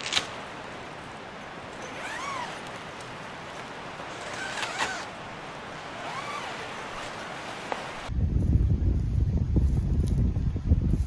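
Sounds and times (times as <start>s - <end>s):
wind rustling in woods: 0.0s - 11.0s.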